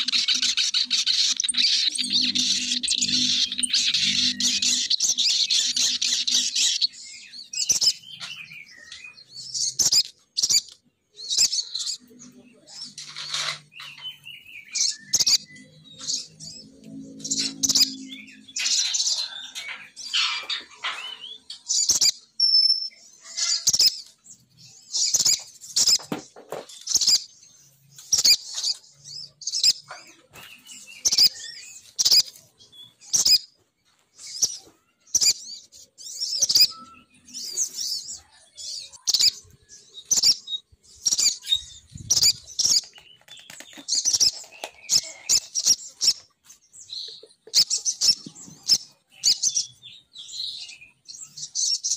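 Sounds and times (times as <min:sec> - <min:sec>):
high chattering bird calls: 0:00.0 - 0:51.9.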